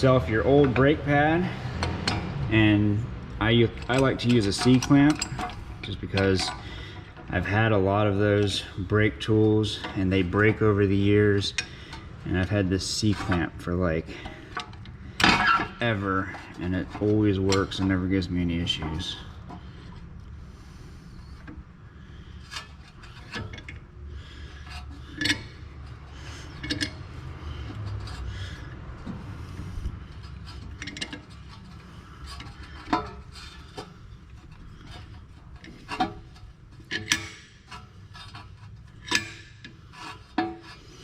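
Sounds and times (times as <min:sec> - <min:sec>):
low steady hum: 0:00.0 - 0:41.0
metal clinks and scraping: 0:00.0 - 0:41.0.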